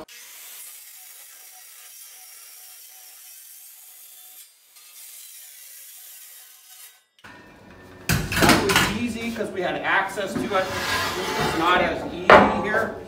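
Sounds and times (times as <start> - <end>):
circular saw cutting metal: 0.0 - 8.0, 10.1 - 12.8.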